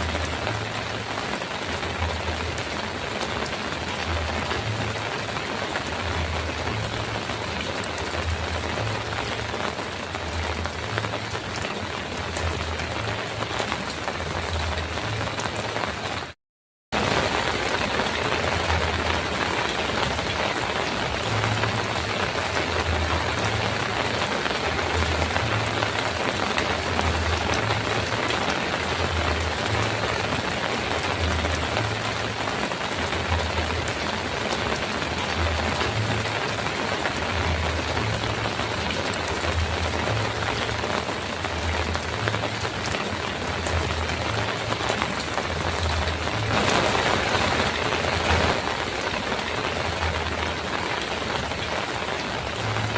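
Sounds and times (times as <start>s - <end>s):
heavy rain on a metal roof: 0.0s - 52.9s.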